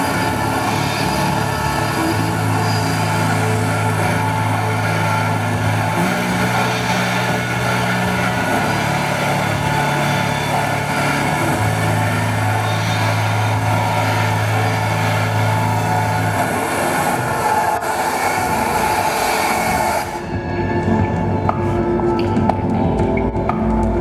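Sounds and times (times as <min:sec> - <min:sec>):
electronic drone of rushing noise: 0:00.0 - 0:23.3
low held notes: 0:00.0 - 0:24.0.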